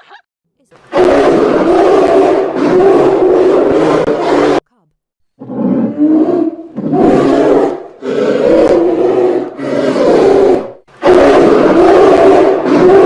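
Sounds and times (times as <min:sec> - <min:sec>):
large animal roaring: 0:00.9 - 0:04.6, 0:05.4 - 0:13.0.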